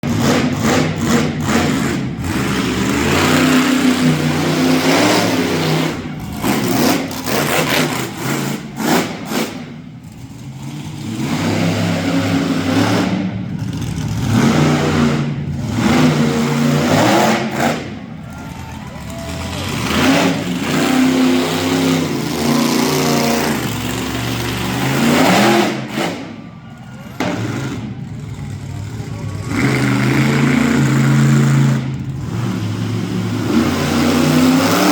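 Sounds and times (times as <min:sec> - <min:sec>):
monster truck engine revving: 0:00.0 - 0:34.9.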